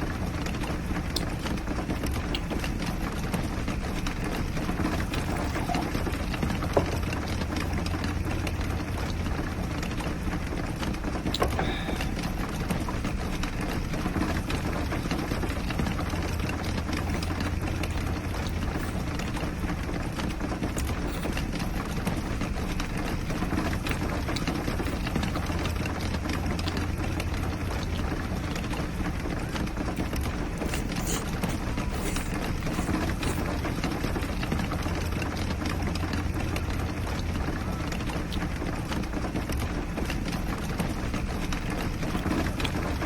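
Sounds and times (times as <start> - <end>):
rain on a roof: 0.0 - 43.0.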